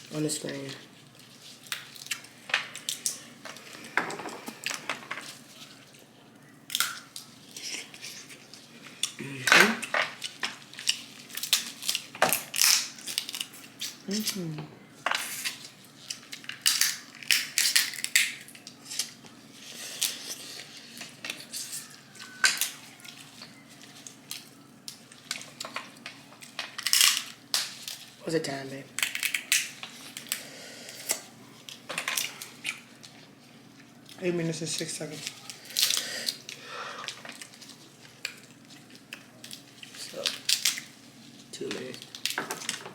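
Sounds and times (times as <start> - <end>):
crab shells cracking: 1.4 - 5.5, 6.7 - 14.4, 15.1 - 19.3, 20.0 - 28.1, 28.9 - 33.3, 34.0 - 41.0, 41.6 - 42.9.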